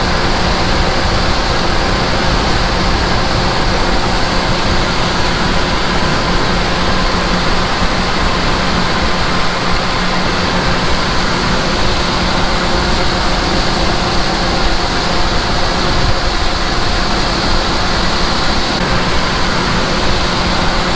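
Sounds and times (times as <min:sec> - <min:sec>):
diesel engine drone: 0:00.0 - 0:20.9
machinery whirring: 0:00.0 - 0:20.9.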